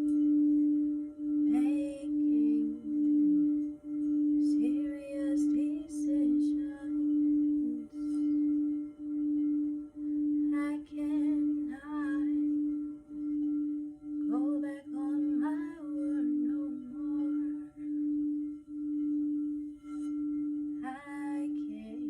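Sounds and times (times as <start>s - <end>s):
singing bowl low tone: 0.0s - 22.0s.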